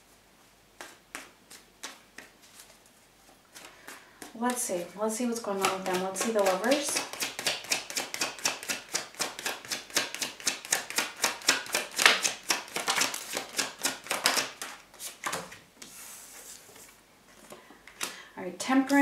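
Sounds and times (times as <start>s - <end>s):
cards sliding rustle: 0.8s - 4.8s, 5.5s - 18.2s
cards being shuffled: 0.8s - 16.9s.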